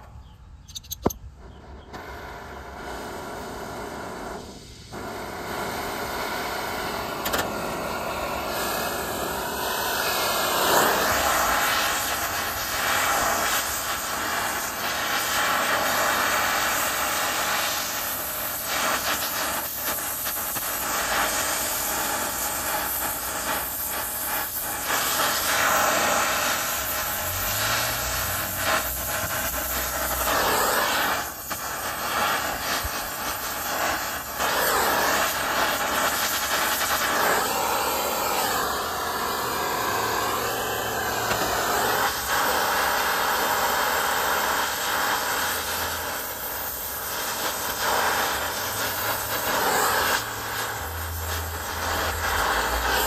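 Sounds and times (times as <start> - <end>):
torch flame hissing: 1.4 - 53.0.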